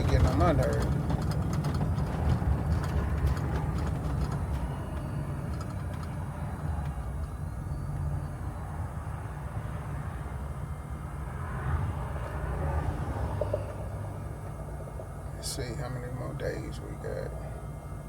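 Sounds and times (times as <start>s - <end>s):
road noise: 0.0s - 18.0s
vehicle engine rumble: 0.0s - 18.0s.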